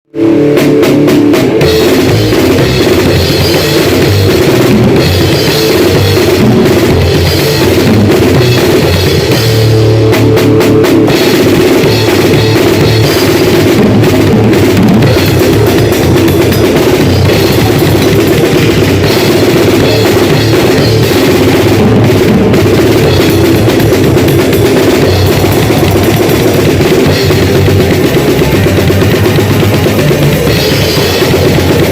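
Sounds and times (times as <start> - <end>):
drum kit played hard: 0.1 - 31.9.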